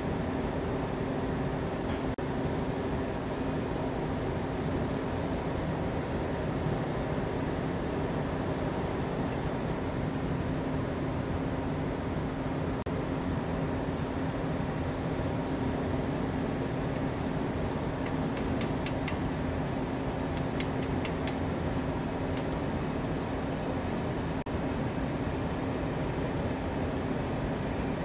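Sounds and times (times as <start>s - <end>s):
stationary train humming: 0.0s - 28.0s.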